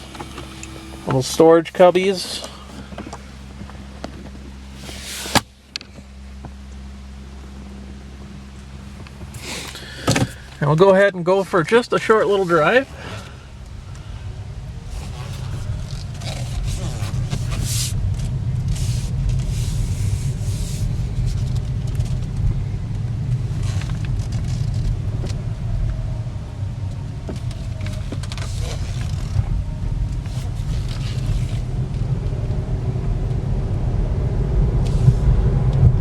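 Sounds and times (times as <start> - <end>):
road and tyre rumble: 0.0 - 36.0.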